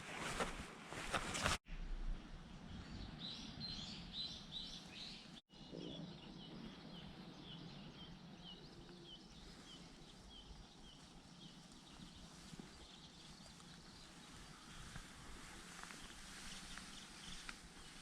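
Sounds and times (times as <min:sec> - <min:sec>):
outdoor background noise: 0:00.0 - 0:18.0
small birds chirping: 0:02.7 - 0:18.0.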